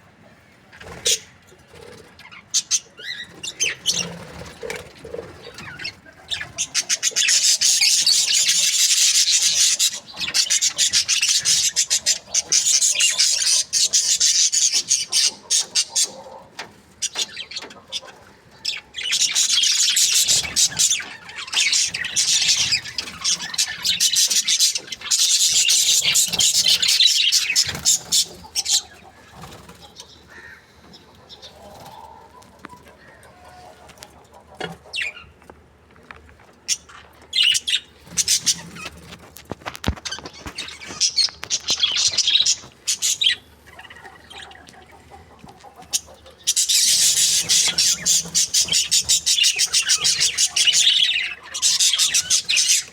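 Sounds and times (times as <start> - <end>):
budgerigars chirping: 2.2 - 32.2, 33.1 - 35.4, 36.7 - 39.1, 40.0 - 52.9.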